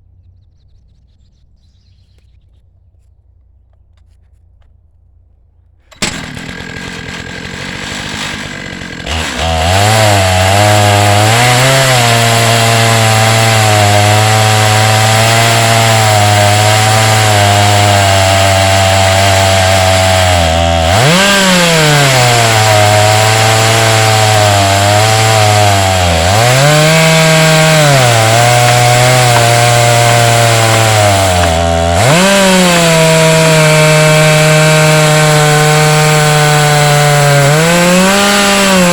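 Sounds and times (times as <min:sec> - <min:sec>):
chainsaw cutting through log: 0:05.8 - 0:38.9.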